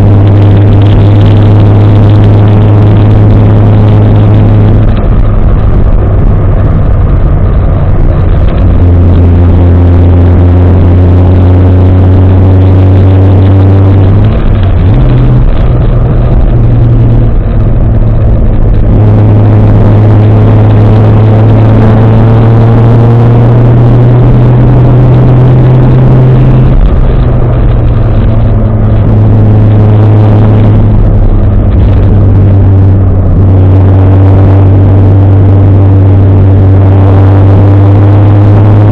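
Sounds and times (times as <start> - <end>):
loud car engine accelerating: 0.0 - 38.9.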